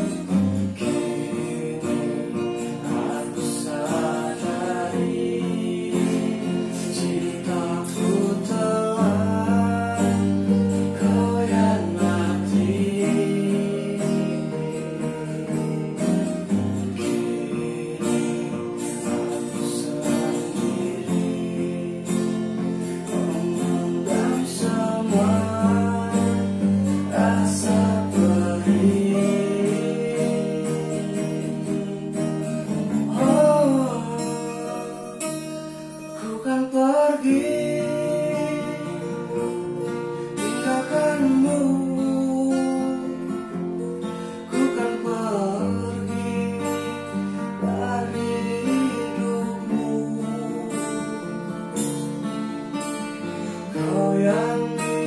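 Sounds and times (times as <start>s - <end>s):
acoustic guitars strumming: 0.0s - 55.0s
man singing: 0.0s - 55.0s.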